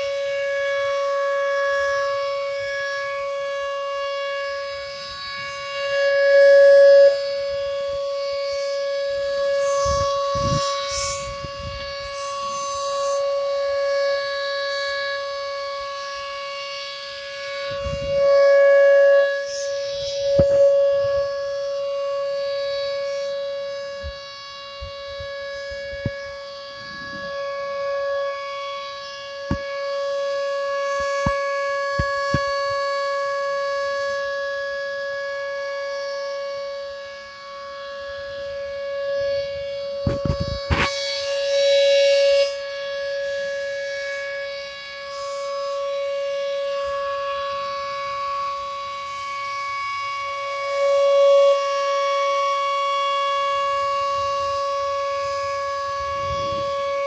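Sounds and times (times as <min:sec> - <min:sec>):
outdoor warning siren steady tone: 0:00.0 - 0:57.0.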